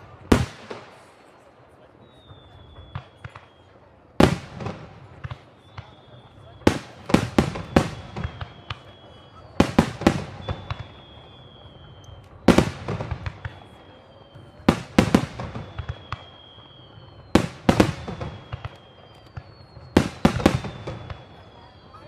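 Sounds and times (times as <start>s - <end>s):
fireworks bursting with loud bangs: 0.0s - 22.0s
fireworks crackling: 0.0s - 22.0s.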